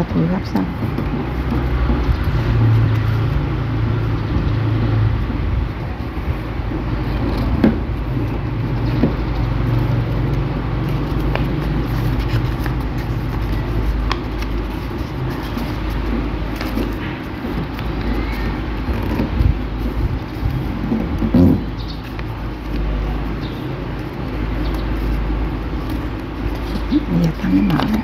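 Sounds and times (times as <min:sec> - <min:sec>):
low motor rumble: 0:00.0 - 0:28.0.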